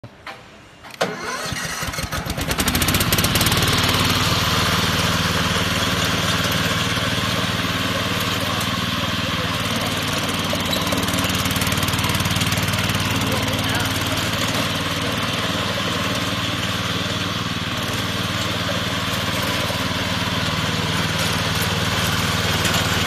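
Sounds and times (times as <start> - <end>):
petrol engine starting and running: 0.0 - 23.0.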